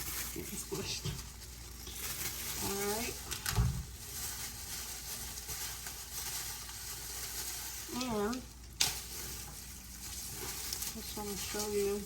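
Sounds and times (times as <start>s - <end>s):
dry corn husks rustling: 0.0s - 12.0s.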